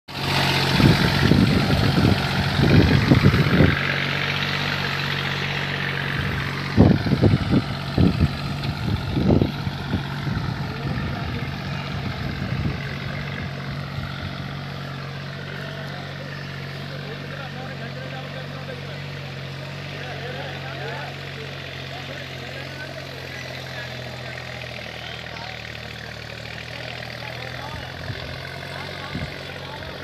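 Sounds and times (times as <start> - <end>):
tractor engine running: 0.1 - 30.0.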